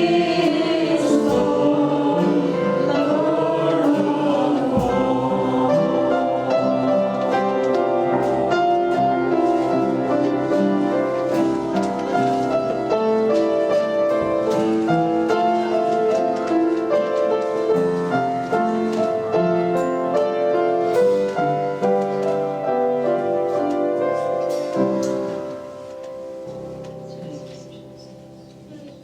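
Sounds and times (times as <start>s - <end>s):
slow piano piece: 0.0s - 29.0s.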